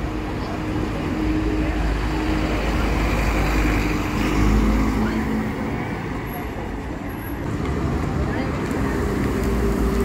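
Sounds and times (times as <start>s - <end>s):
bus diesel engine rumbling: 0.0s - 10.0s
road noise: 0.0s - 10.0s.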